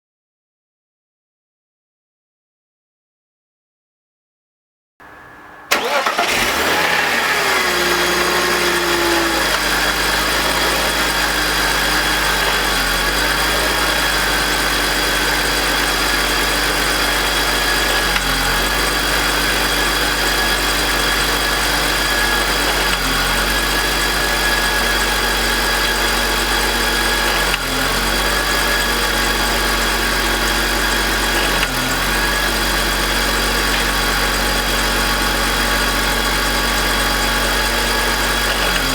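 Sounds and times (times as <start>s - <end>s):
car engine starting and idling: 5.0s - 38.9s
engine grinding noise: 5.0s - 38.9s.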